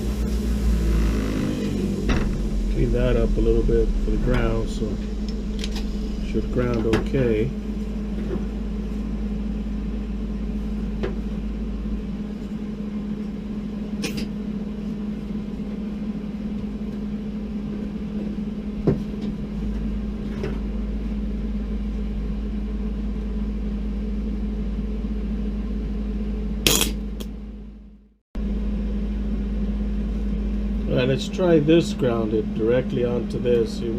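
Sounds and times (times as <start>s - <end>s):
electrical hum: 0.0s - 33.9s.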